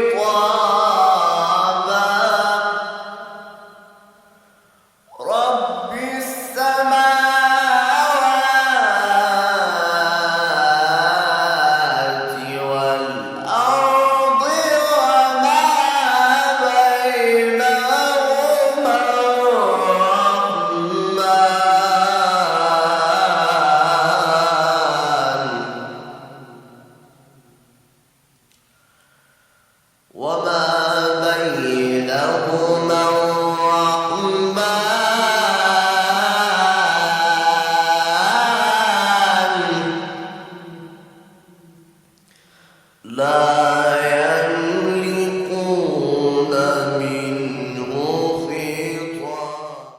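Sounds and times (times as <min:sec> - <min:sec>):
man chanting solo: 0:00.0 - 0:03.8, 0:05.1 - 0:26.8, 0:30.1 - 0:41.6, 0:43.1 - 0:49.9.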